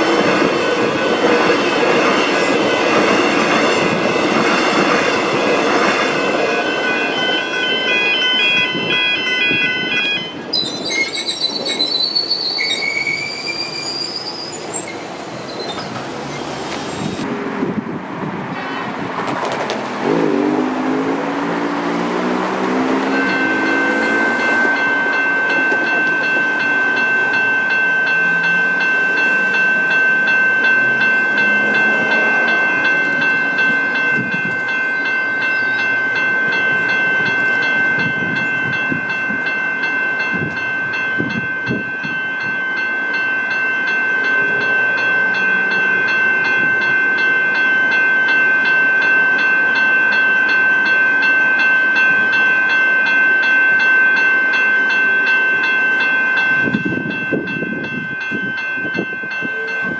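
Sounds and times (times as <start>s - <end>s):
level crossing bells ringing: 0.0s - 11.6s, 20.1s - 59.9s.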